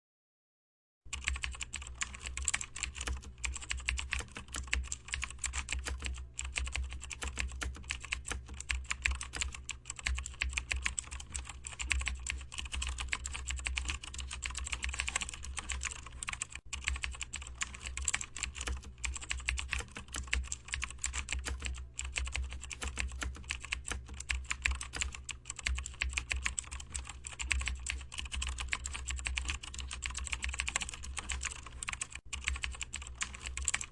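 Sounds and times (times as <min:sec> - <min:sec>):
fast typing on keyboard: 0:01.1 - 0:33.9.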